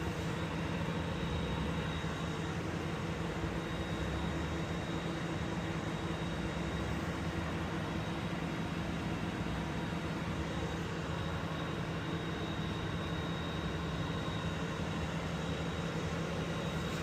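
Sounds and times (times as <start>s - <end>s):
engine running drone: 0.0s - 17.0s.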